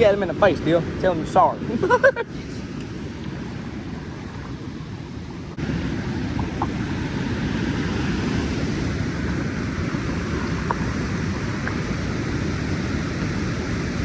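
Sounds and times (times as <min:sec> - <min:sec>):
water rushing below a dam: 0:00.0 - 0:14.0
wind on microphone: 0:00.0 - 0:14.0.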